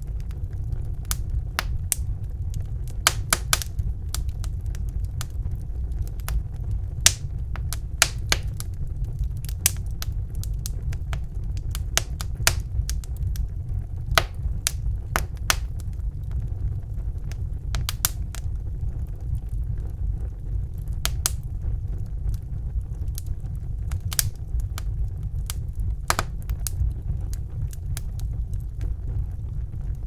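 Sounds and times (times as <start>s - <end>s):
low rumble of burning logs: 0.0s - 30.0s
wood fire crackling: 0.0s - 30.0s.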